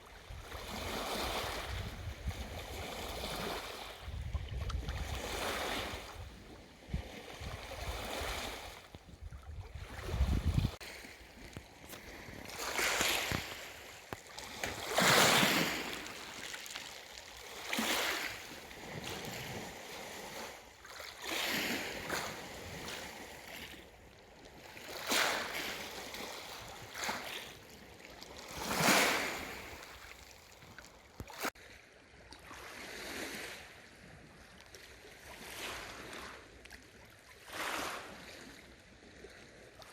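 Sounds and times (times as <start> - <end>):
small waves splashing on shore: 0.0 - 39.9.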